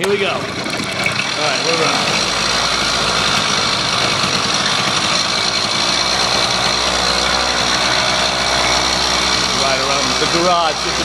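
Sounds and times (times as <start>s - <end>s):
small gas engine running: 0.0s - 11.0s.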